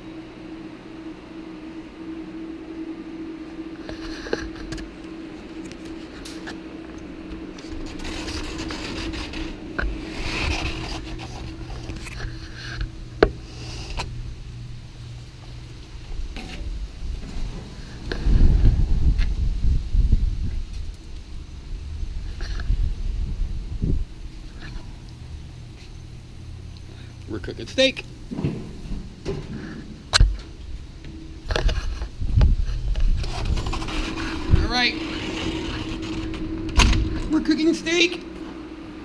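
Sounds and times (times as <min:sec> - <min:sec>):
heavy low rumble: 0:00.0 - 0:39.0
indoor hum with held tone: 0:00.0 - 0:39.0.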